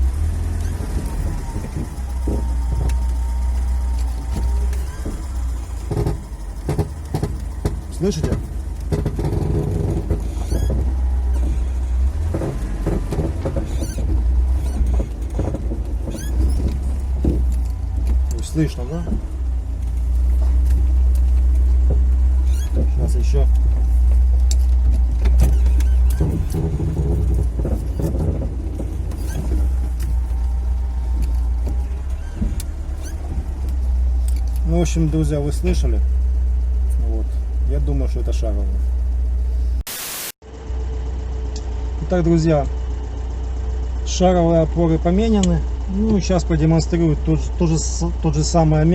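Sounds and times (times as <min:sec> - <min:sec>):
car suspension squeaking: 0:00.0 - 0:39.8
car engine running: 0:00.0 - 0:48.9.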